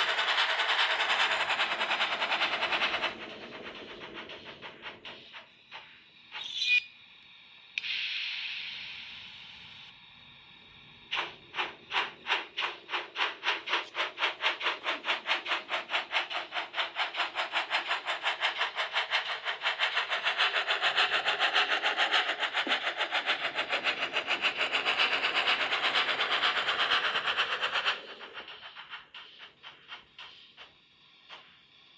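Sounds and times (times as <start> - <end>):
steam hiss: 0.0 - 6.4, 7.2 - 31.9
steam locomotive chuffing: 0.0 - 6.4, 7.4 - 31.9.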